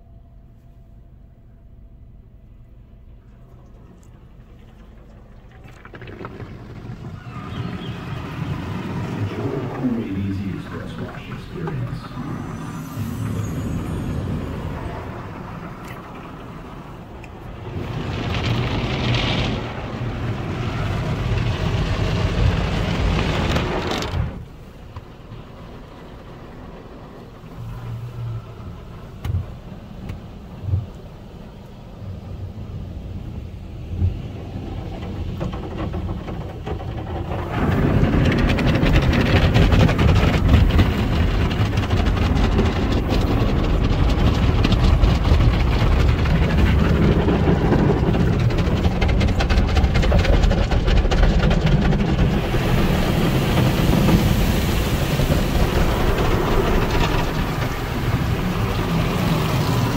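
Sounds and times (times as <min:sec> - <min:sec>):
car wash low rumble: 0:00.0 - 0:59.9
car wash rushing: 0:02.6 - 0:59.9.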